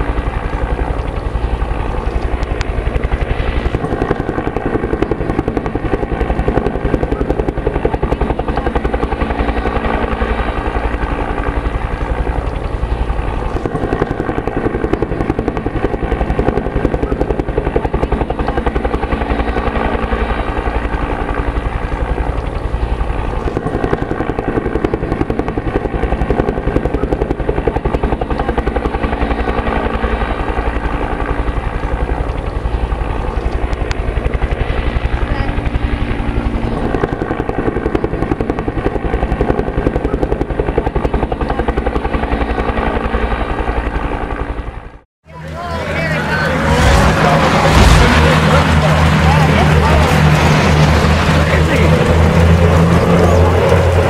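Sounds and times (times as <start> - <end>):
helicopter engine whine: 0.0 - 54.0
helicopter rotor beating: 0.0 - 54.0.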